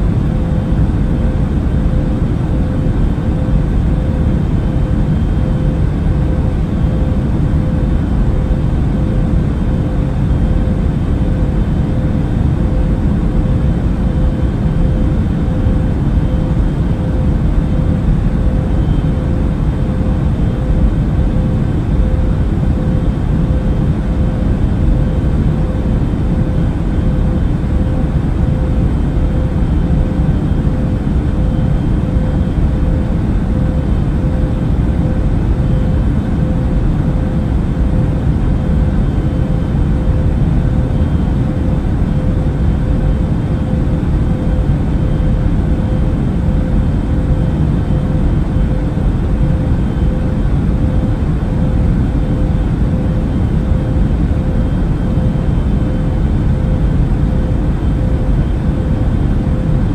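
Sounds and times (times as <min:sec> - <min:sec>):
engine and airflow rumble: 0:00.0 - 0:59.9
mid-pitched hum: 0:00.0 - 0:59.9.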